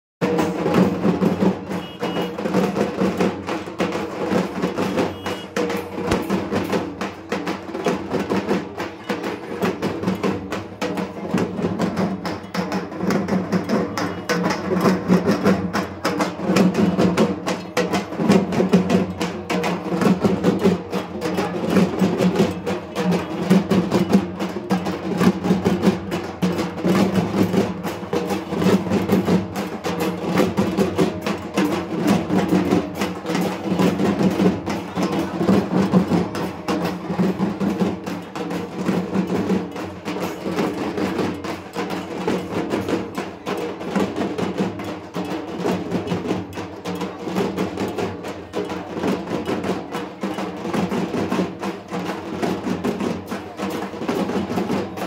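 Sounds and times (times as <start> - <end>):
barrel drums beaten with sticks: 0.2 - 55.0.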